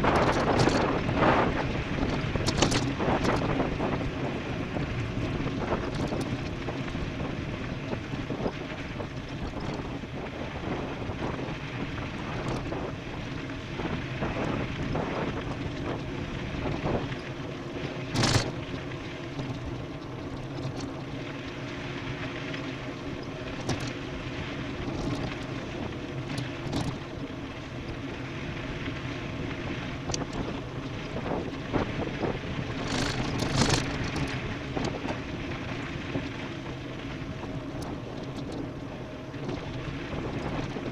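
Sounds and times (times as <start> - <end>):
bike rattling over bumps: 0.0 - 40.9
tyres on dirt road: 0.0 - 40.9
wind rushing over microphone: 0.0 - 40.9.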